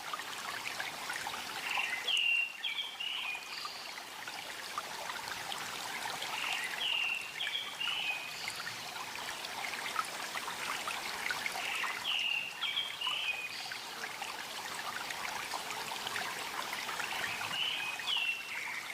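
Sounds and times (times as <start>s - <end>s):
stream trickling and babbling: 0.0s - 18.9s.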